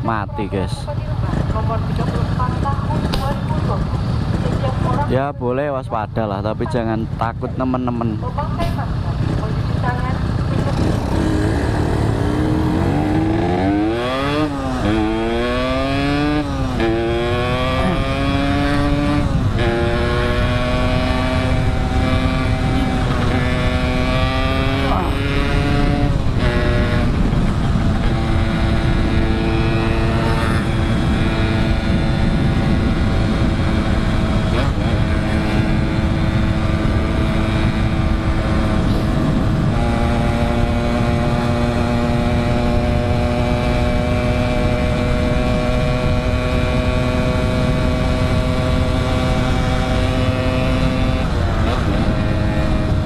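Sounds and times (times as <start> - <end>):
two-stroke motorcycle engine: 0.0 - 53.0
wind rumble on microphone: 0.0 - 53.0.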